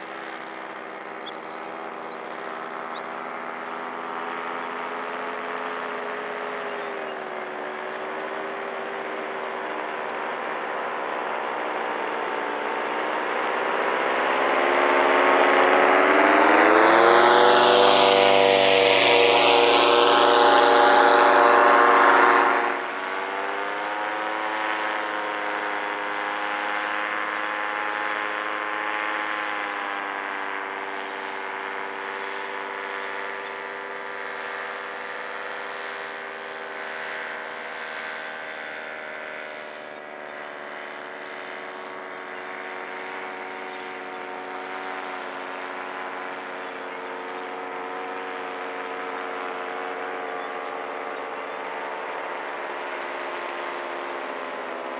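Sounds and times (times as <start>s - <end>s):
paraglider engine and propeller droning: 0.0s - 54.9s.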